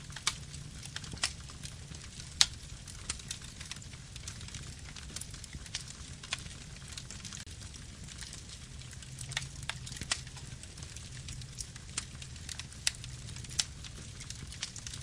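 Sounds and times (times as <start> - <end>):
low rumble of flames: 0.0 - 15.0
wood crackling and popping: 0.0 - 15.0.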